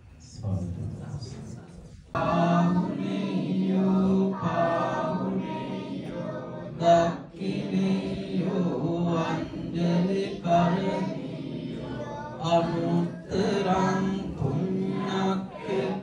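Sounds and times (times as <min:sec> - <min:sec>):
voices chanting in unison: 0:02.1 - 0:16.0.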